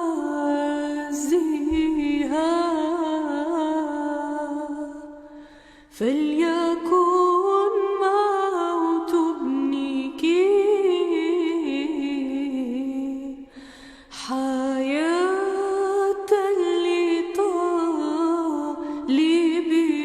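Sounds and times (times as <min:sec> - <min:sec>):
woman singing a lament hymn: 0:00.0 - 0:20.0.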